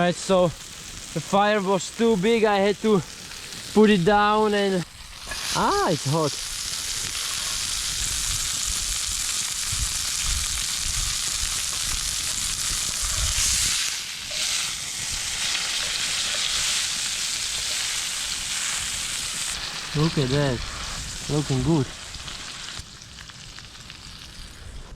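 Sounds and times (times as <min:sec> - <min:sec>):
steak sizzling in a pan: 0:00.0 - 0:24.9.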